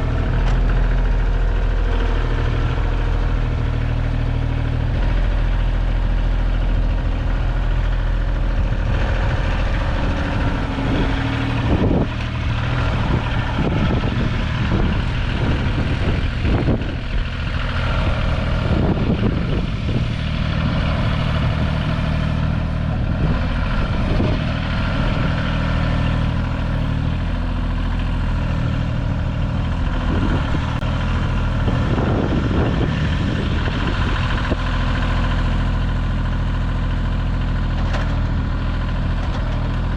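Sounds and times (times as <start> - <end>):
backhoe clunks and scrapes: 0.0 - 39.9
tractor diesel engine running: 0.0 - 39.9.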